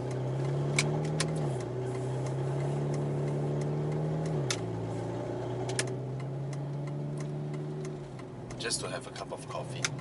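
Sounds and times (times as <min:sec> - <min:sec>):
car engine with exhaust leak: 0:00.0 - 0:10.0.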